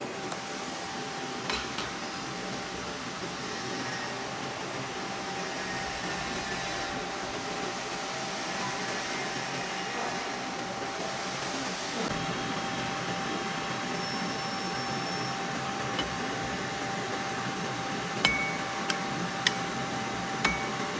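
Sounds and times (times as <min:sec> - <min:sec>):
high machine hum: 0:00.0 - 0:20.9
machinery fan hiss: 0:00.0 - 0:20.9.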